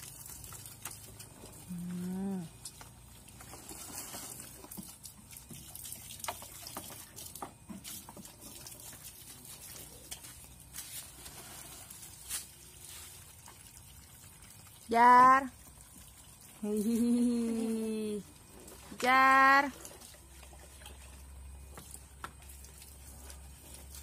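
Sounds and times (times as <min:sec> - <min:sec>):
water splashing in a washbasin: 0:00.0 - 0:24.0.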